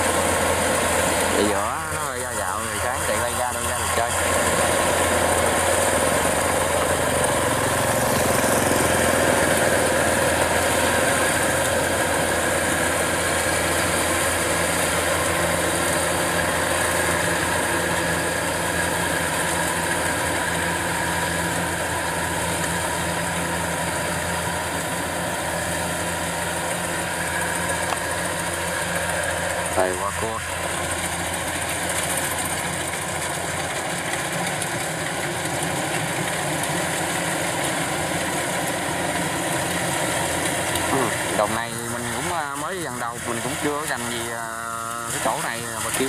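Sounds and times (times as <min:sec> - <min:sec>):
combine harvester running: 0:00.0 - 0:46.0.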